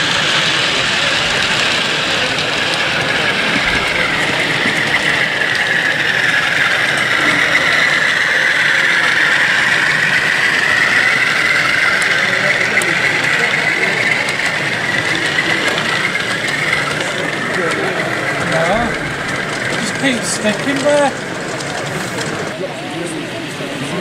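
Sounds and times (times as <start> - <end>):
high whine: 0.0 - 23.7
model diesel locomotive engine: 0.0 - 24.0.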